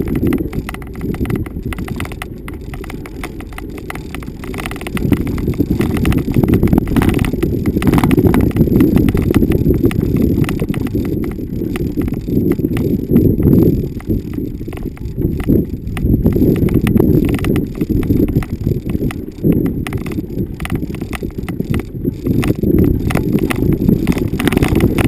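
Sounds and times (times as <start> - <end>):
vehicle rumbling over bumpy ground: 0.0 - 25.0.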